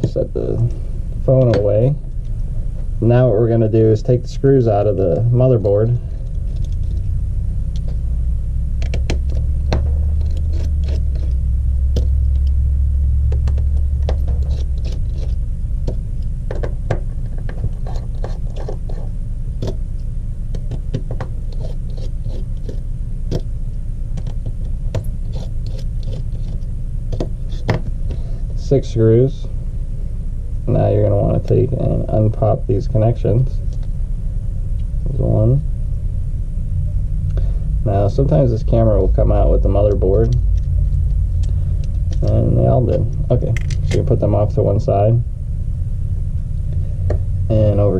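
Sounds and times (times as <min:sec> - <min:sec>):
steady low rumble: 0:00.0 - 0:47.9.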